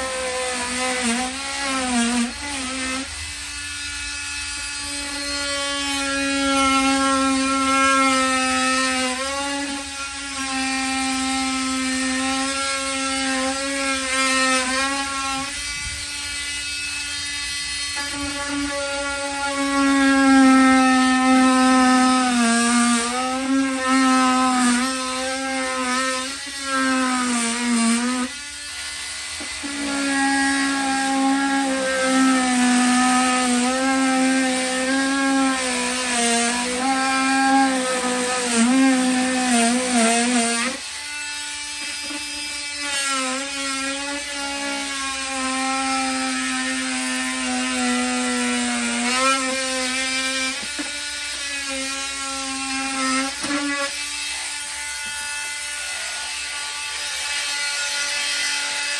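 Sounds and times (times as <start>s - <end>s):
oscillating multi-tool cutting wood: 0.0s - 58.9s.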